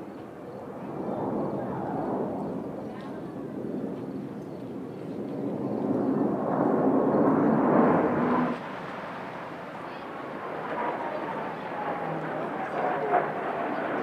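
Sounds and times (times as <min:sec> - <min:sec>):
jets flying overhead: 0:00.0 - 0:14.0.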